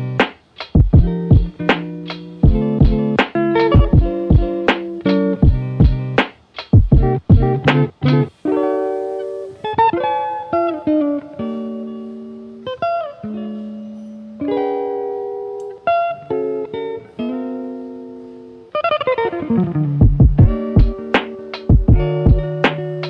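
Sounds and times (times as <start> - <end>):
slow plucked chords: 1.0 - 6.2, 6.9 - 17.8, 19.4 - 23.0.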